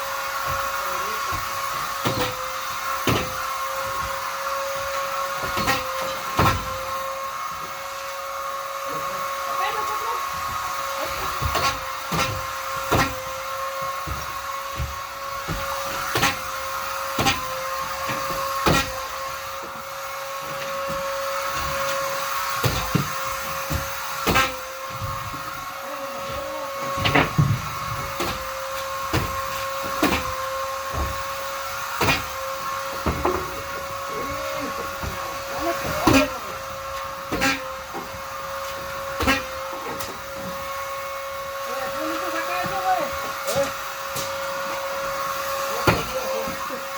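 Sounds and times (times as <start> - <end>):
vacuum cleaner motor whining: 0.0 - 46.9.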